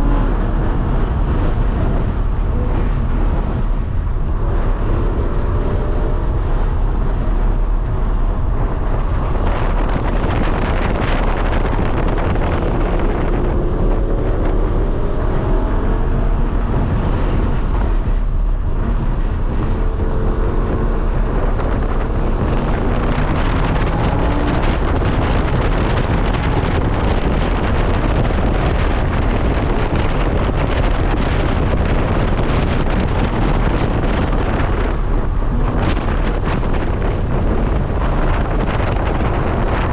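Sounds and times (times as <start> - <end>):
race car engine accelerating: 0.0 - 39.9
road noise: 0.0 - 39.9
wind noise on microphone: 0.0 - 39.9.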